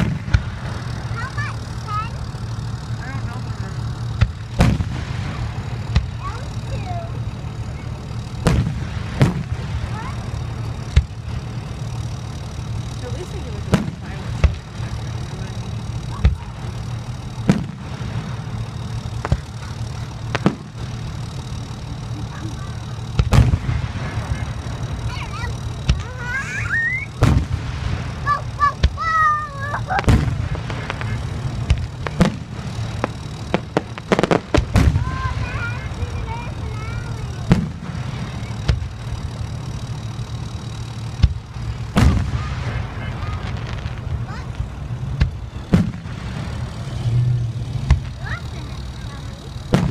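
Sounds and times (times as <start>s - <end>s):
fireworks bangs: 0.0s - 49.9s
steady low rumble: 0.0s - 49.9s.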